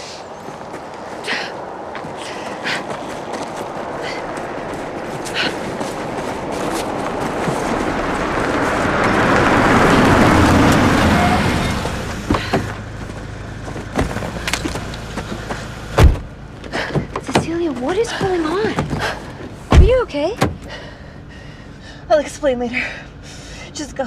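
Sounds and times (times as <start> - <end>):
car approaching and stopping: 0.1 - 24.0
car engine idling: 0.6 - 24.0.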